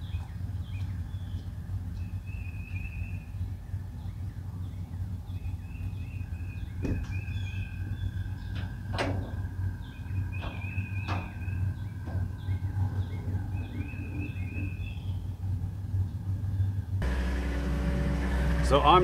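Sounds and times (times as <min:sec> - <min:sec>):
birds chirping: 0:00.0 - 0:19.0
diesel engine idling: 0:00.0 - 0:19.0.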